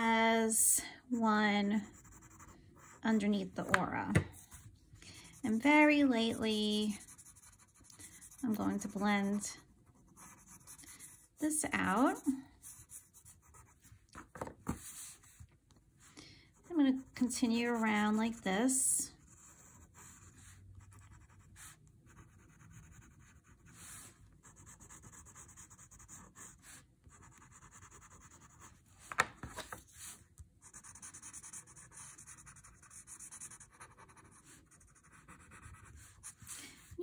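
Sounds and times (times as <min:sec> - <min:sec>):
scratchy rubbing on paper: 0:01.8 - 0:14.0, 0:16.6 - 0:37.0.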